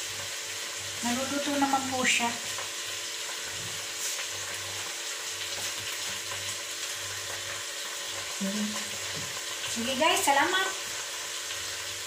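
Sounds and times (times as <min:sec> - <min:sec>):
food frying sizzle: 0:00.0 - 0:12.0.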